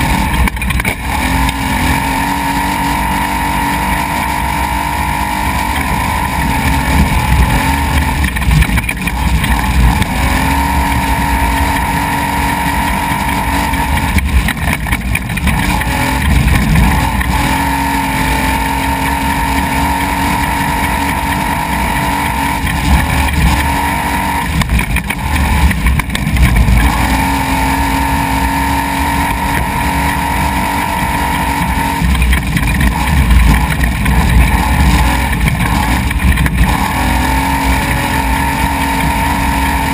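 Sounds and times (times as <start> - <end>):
low rumble of rough ground: 0.0 - 39.9
truck engine at high revs: 0.0 - 39.9.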